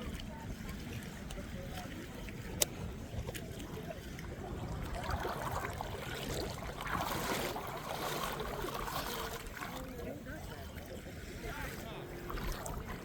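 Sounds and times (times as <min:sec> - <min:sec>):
sea water sloshing and splashing: 0:00.0 - 0:13.0.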